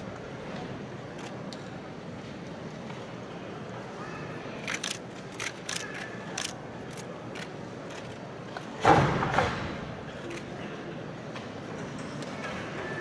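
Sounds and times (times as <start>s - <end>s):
murmur of arena crowd: 0.0s - 13.0s.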